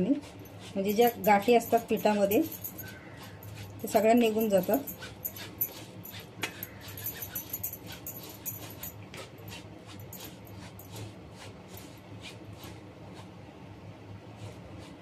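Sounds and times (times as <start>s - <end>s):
wire whisk scraping a bowl: 0.0s - 13.3s.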